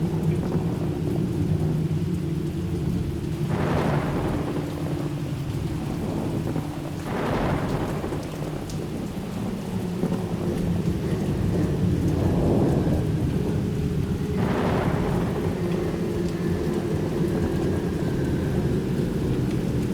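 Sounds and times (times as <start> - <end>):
low rolling thunder: 0.0 - 19.9
rain: 0.0 - 19.9.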